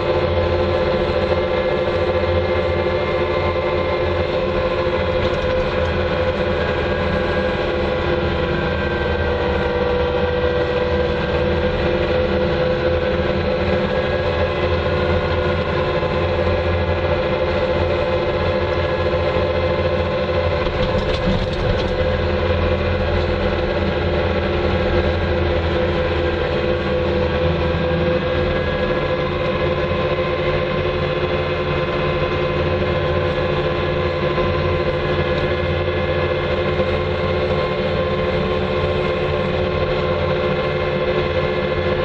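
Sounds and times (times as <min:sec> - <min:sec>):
loader engine drone: 0:00.0 - 0:42.0.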